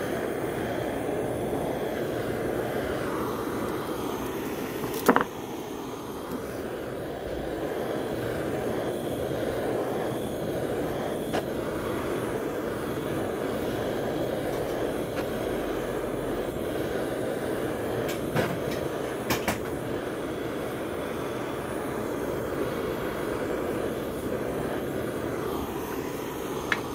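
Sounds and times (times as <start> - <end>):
torch flame roaring: 0.0 - 26.9.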